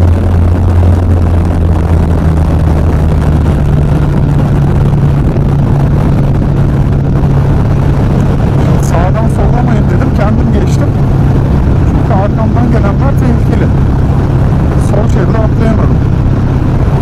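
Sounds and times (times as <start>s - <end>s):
motorcycle engine accelerating: 0.0s - 17.0s
wind rush on microphone: 0.0s - 17.0s.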